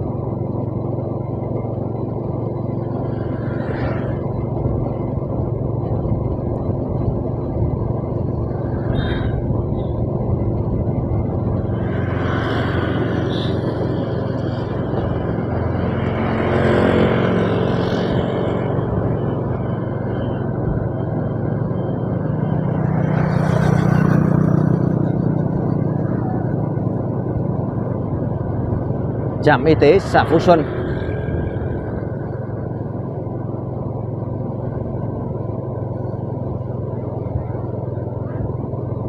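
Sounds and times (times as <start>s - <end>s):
vehicle engine and road noise: 0.0s - 39.0s.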